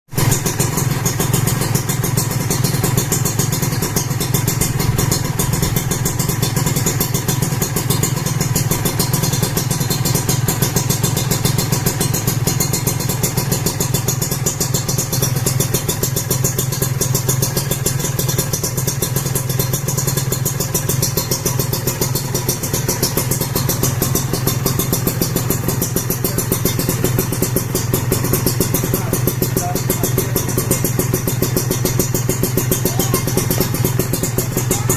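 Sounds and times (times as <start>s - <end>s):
two-stroke motorcycle engine idling: 0.1s - 34.9s.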